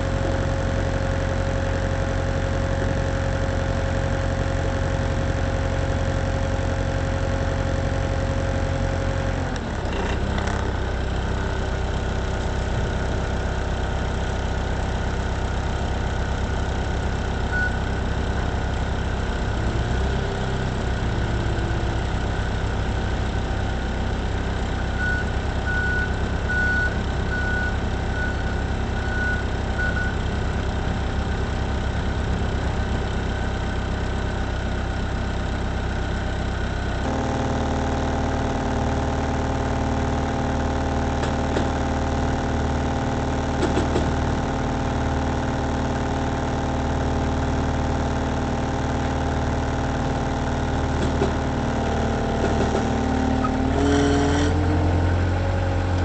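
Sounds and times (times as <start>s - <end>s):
forklift engine running: 0.0s - 56.0s.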